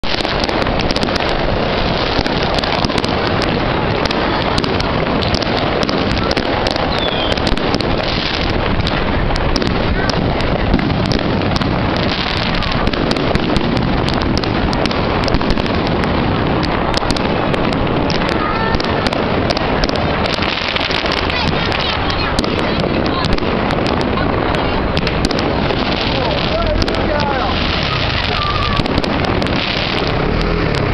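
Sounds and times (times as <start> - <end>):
crowd voices: 0.0 - 30.9
fireworks popping and crackling: 0.0 - 30.9.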